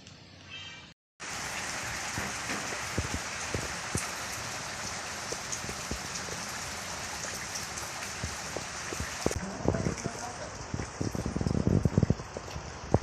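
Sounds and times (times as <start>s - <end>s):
rain falling: 1.2s - 13.0s.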